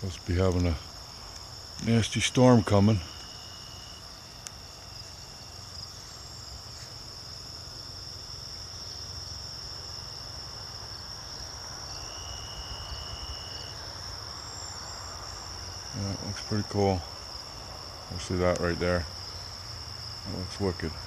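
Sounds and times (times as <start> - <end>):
high-pitched insect trill: 0.0 - 21.0
lower-pitched insect trill: 0.0 - 21.0.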